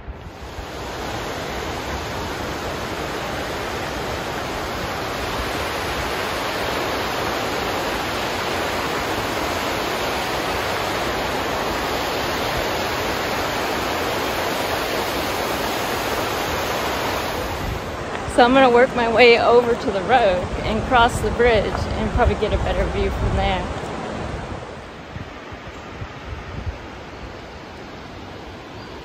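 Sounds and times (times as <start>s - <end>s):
river rushing over rocks: 0.0s - 29.0s.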